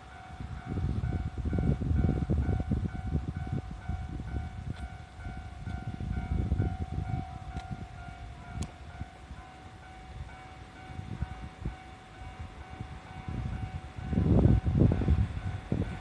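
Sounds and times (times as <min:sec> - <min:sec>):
electric train rumbling past: 0:00.0 - 0:16.0
level-crossing alarm bell ringing: 0:00.0 - 0:16.0.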